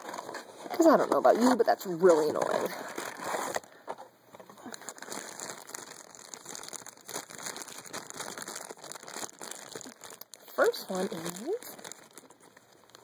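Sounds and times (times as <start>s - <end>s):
foil bag crinkling: 0.0s - 13.0s.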